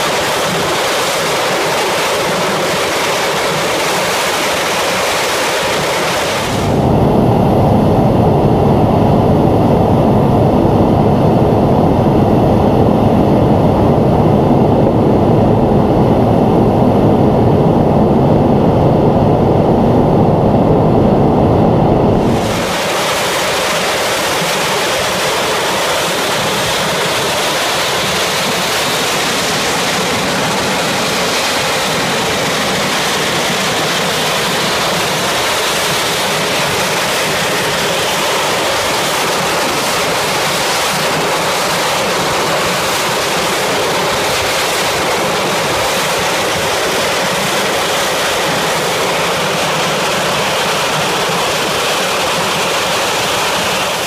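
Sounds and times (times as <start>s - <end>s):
turbojet engine running: 0.0s - 54.0s.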